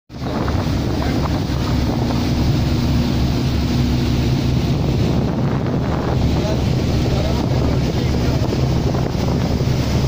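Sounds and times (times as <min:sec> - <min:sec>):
boat engine drone: 0:00.1 - 0:10.0
water wash: 0:00.1 - 0:10.0
wind buffeting microphone: 0:00.1 - 0:10.0.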